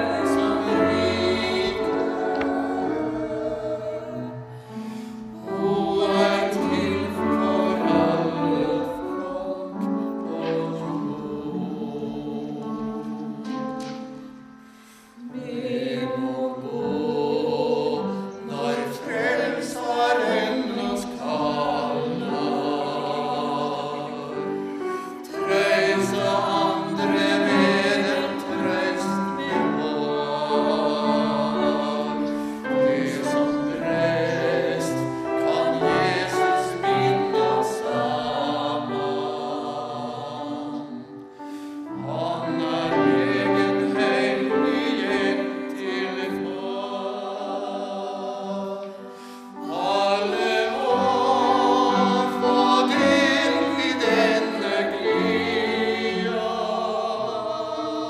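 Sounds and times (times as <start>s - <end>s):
piano accompaniment: 0.0s - 58.0s.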